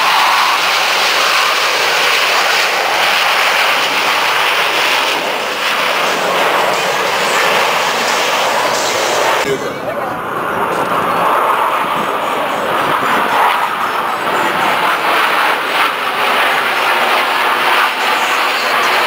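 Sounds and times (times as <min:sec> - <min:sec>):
jet engine rush: 0:00.0 - 0:19.0.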